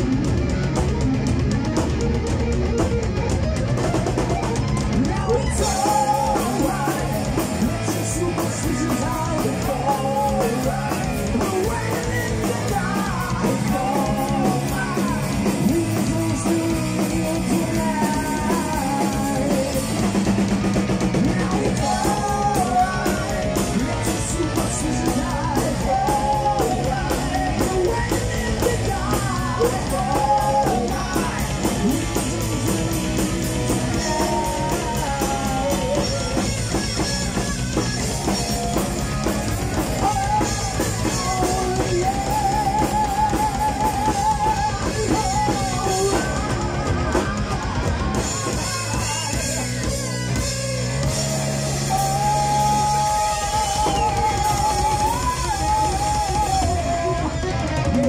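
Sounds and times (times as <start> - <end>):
bass guitar: 0.0 - 58.0
electric guitar: 0.0 - 58.0
fast drum kit: 0.0 - 58.0
man singing: 4.6 - 58.0.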